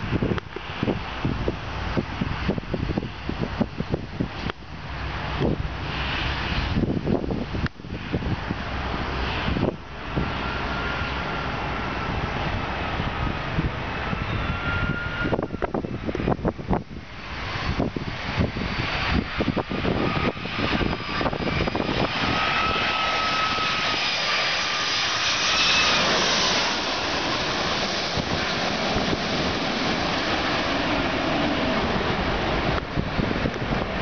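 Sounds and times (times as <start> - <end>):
jet engine roar and whine: 0.0 - 34.0
wind buffeting microphone: 0.0 - 34.0.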